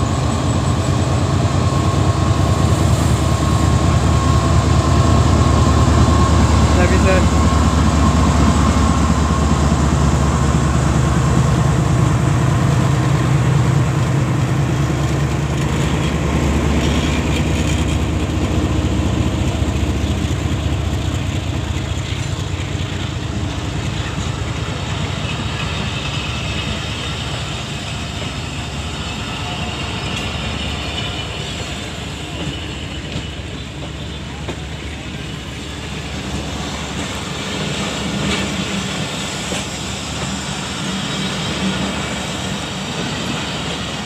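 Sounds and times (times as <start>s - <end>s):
locomotive engine drone: 0.0s - 44.0s
train wheels clattering on rails: 0.0s - 44.0s.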